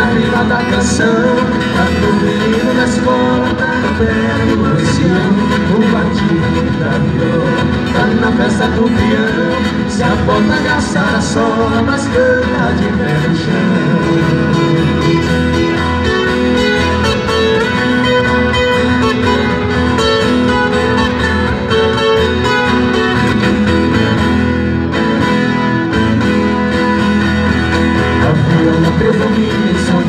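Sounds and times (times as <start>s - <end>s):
acoustic guitar: 0.0s - 30.0s.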